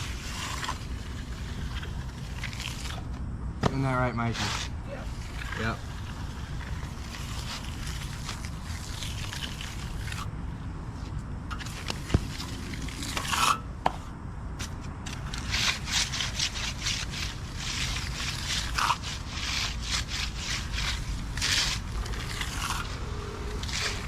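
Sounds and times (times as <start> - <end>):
tools scraping wet concrete: 0.0 - 10.3, 11.5 - 14.0, 14.6 - 24.0.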